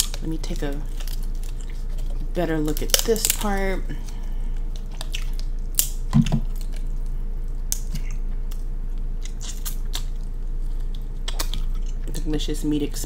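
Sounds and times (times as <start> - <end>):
crab shell cracking: 0.0 - 3.6, 4.6 - 12.0.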